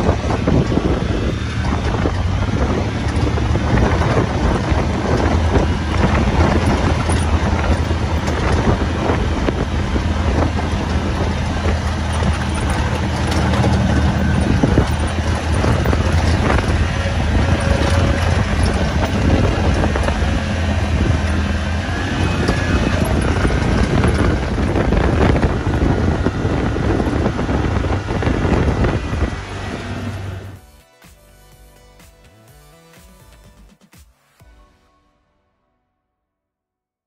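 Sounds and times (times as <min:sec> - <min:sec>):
wind noise on microphone: 0:00.0 - 0:30.6
vehicle engine humming: 0:00.0 - 0:30.8.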